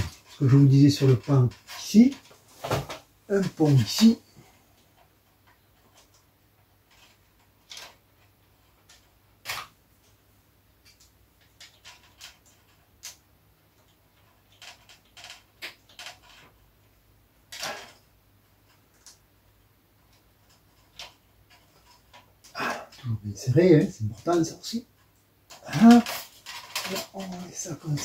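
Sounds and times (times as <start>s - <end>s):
hands and tool clicking on wiring: 0.0s - 28.0s.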